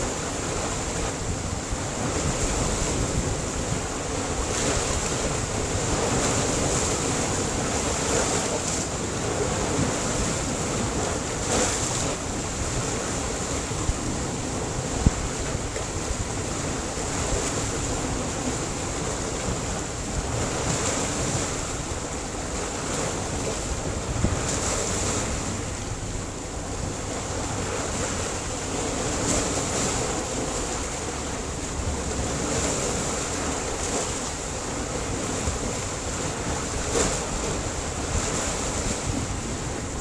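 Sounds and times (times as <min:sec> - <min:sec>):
sea surf on rocky shore: 0:00.0 - 0:40.0.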